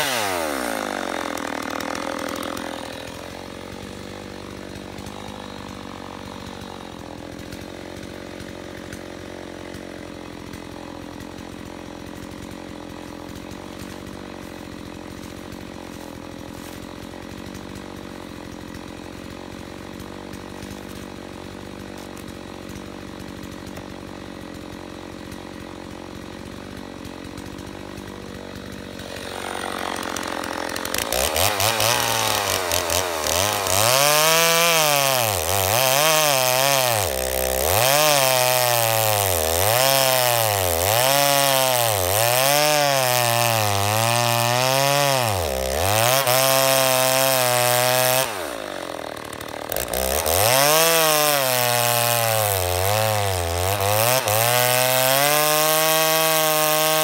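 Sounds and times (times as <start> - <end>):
chainsaw idling and revving: 0.0 - 57.0.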